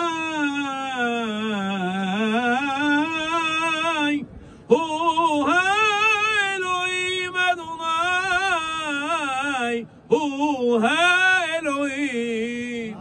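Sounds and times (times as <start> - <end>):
man singing cantorial melody: 0.0 - 13.0.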